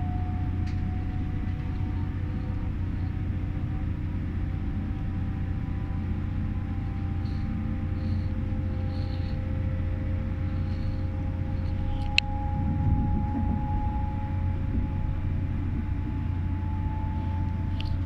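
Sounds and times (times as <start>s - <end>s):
faint whining tones: 0.0s - 18.0s
train interior rumble: 0.0s - 18.0s.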